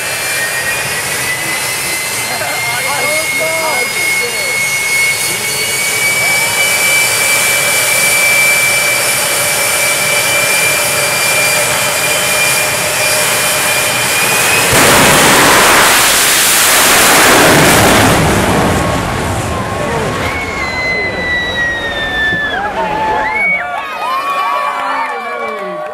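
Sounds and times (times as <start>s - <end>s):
jet engine rushing blast: 0.0s - 23.4s
jet engine whine: 0.0s - 24.9s.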